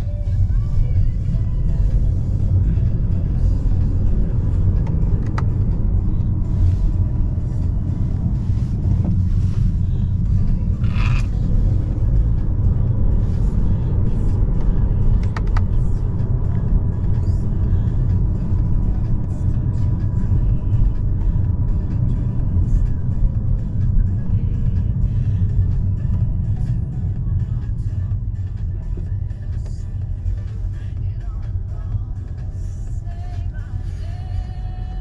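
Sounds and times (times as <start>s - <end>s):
car engine rumble: 0.0s - 35.0s
road noise inside car: 0.0s - 35.0s.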